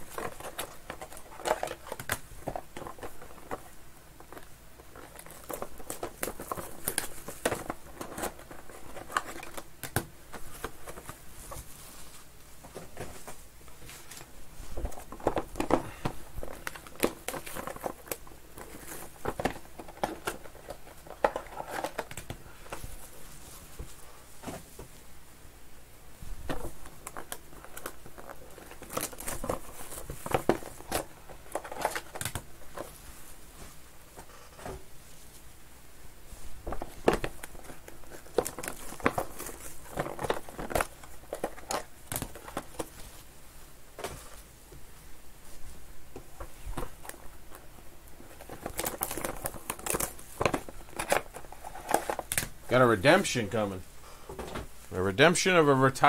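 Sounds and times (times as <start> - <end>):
plastic wrap crinkling: 0.0 - 24.2, 26.4 - 34.4, 36.3 - 43.3, 46.2 - 53.8
cardboard boxes handled: 0.0 - 25.0, 26.3 - 35.0, 36.4 - 43.3, 45.6 - 53.2.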